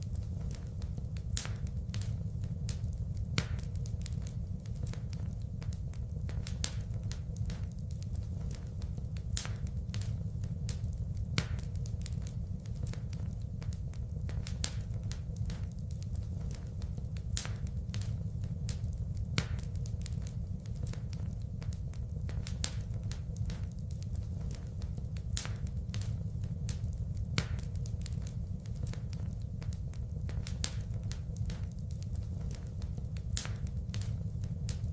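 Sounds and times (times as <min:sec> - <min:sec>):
steady low rumble: 0:00.0 - 0:34.9
wood fire crackling: 0:00.0 - 0:34.9
fire pops: 0:00.1 - 0:34.9.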